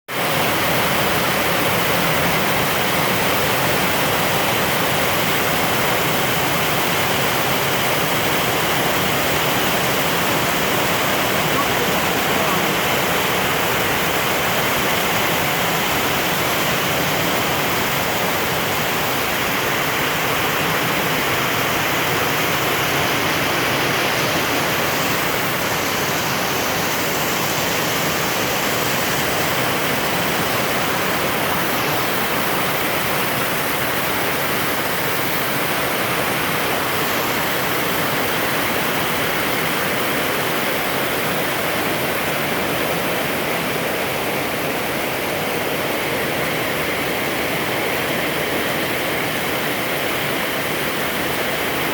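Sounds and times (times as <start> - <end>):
heavy rain pouring: 0.1 - 51.9.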